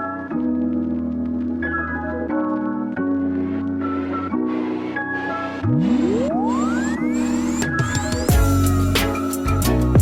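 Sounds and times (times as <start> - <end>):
organ-like keyboard chords: 0.0 - 10.0.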